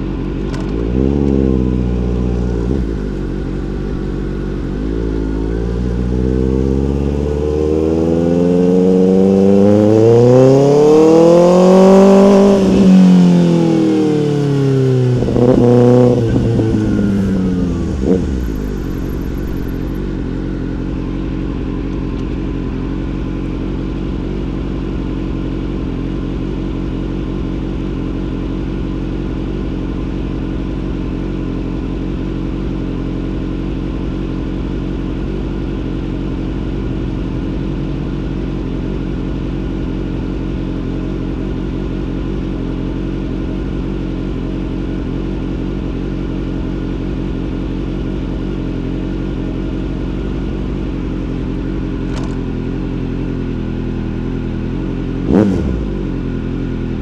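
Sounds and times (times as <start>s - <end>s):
motorcycle engine revving: 0.0s - 28.9s, 34.1s - 57.0s.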